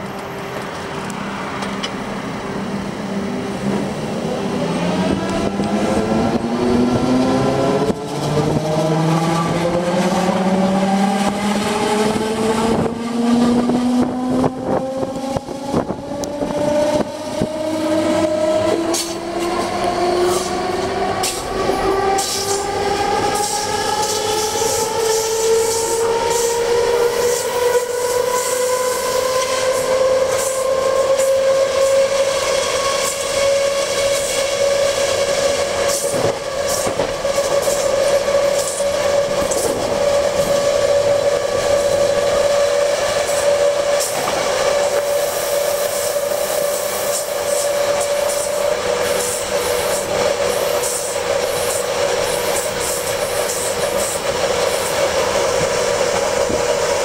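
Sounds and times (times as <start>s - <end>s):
train traction motors whining: 0.0s - 57.0s
wheels running on track: 0.0s - 57.0s.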